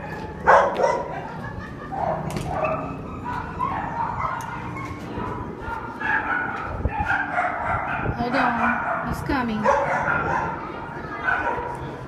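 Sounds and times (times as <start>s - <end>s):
loud dog bark: 0.0s - 11.8s
dogs barking and yipping: 0.0s - 12.0s.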